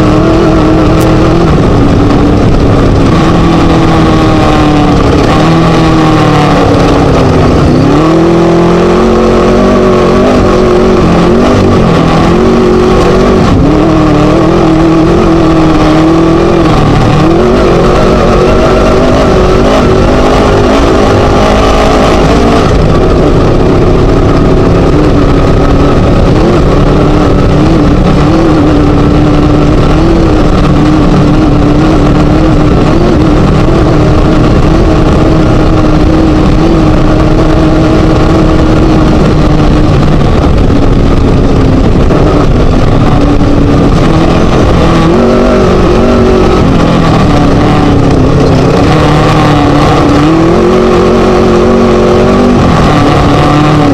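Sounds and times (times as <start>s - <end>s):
racing buggy engine running loud: 0.0s - 53.9s.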